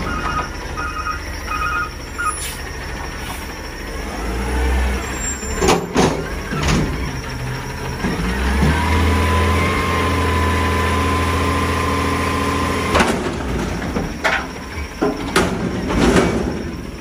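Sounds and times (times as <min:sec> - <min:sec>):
back-up alarm beeping: 0:00.0 - 0:12.9, 0:13.9 - 0:17.0
diesel truck engine revving: 0:00.0 - 0:14.1.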